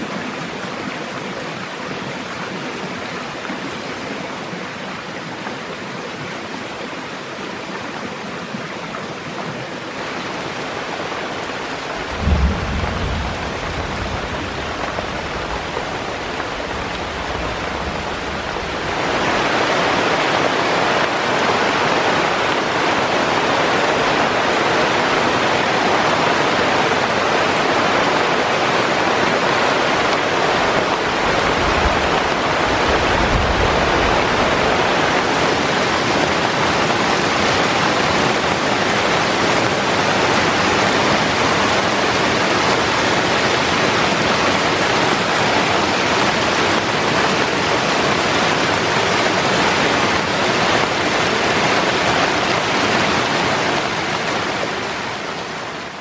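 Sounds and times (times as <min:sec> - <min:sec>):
heavy rain on foliage: 0:00.0 - 0:56.0.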